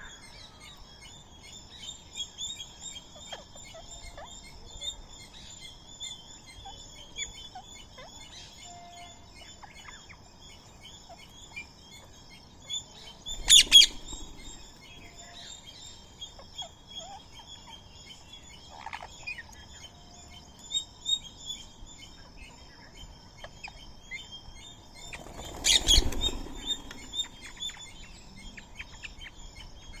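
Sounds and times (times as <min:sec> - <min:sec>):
birds chirping and chattering: 0:00.0 - 0:30.0.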